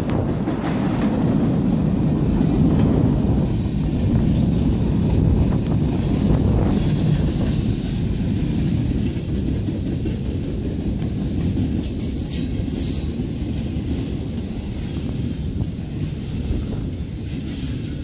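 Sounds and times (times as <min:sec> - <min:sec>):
freight cars rumbling on rails: 0:00.0 - 0:18.0.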